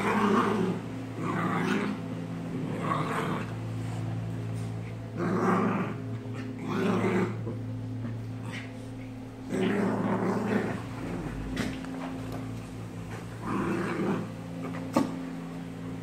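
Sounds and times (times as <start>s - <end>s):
dogs growling: 0.0s - 15.2s
steady low hum: 0.0s - 16.0s.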